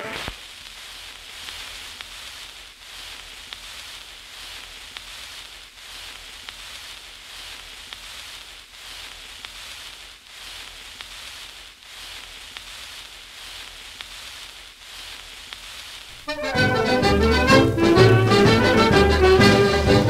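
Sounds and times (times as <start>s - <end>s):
faint clicks and crackles: 0.0s - 16.3s
steady hiss: 0.0s - 20.0s.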